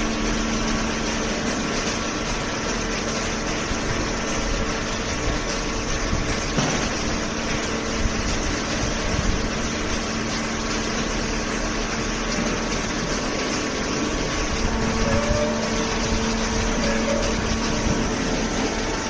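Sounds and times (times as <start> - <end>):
baler mechanical hum: 0.0 - 19.0.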